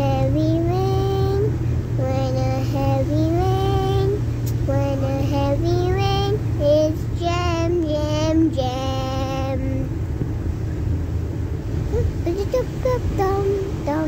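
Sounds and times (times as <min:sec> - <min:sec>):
child singing: 0:00.0 - 0:09.9, 0:12.0 - 0:14.0.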